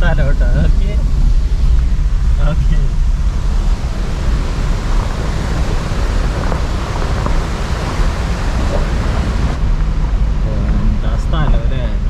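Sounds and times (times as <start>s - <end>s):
car driving on rough track: 0.0s - 12.0s.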